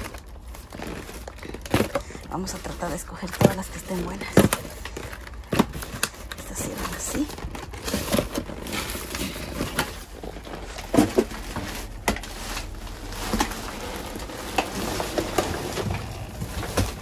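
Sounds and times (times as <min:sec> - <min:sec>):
plastic bags rustling and crinkling: 0:00.0 - 0:17.0.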